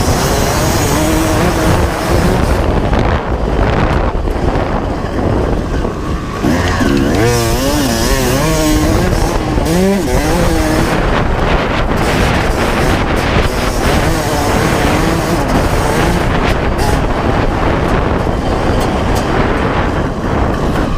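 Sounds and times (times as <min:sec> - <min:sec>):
two-stroke motorcycle engine revving: 0:00.0 - 0:20.9
wind noise on microphone: 0:00.0 - 0:20.9.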